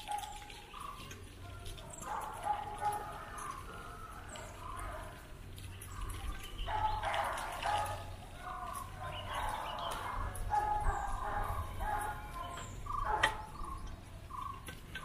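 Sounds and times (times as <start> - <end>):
bicycle riding rumble: 0.0 - 15.0
birds calling: 0.0 - 15.0.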